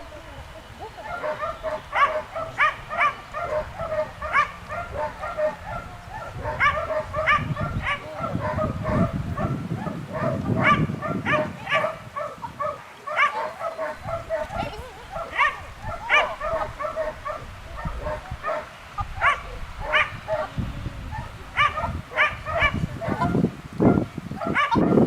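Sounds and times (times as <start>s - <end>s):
dog barking: 0.8s - 25.0s.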